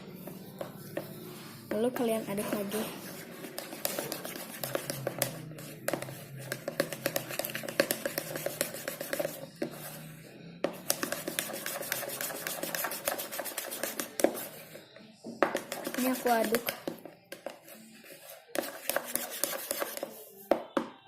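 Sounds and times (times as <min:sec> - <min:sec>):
stirrer scraping a container: 0:00.0 - 0:20.7.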